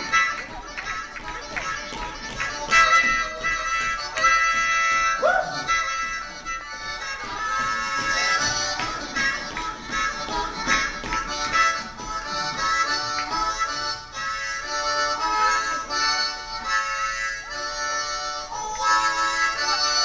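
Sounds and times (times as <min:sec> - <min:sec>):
harmonica playing chords: 0:00.0 - 0:20.0.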